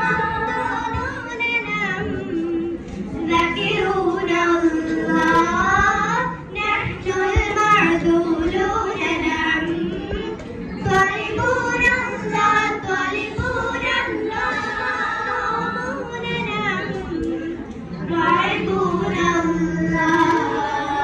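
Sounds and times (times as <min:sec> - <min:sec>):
girls singing together: 0:00.0 - 0:21.0.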